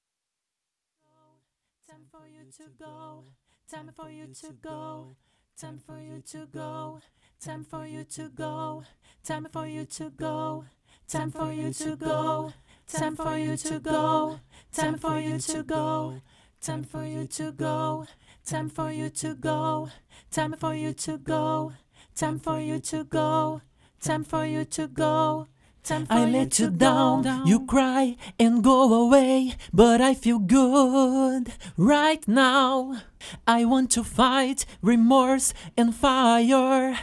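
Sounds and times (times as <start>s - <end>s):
a cappella voices singing: 1.8s - 37.0s.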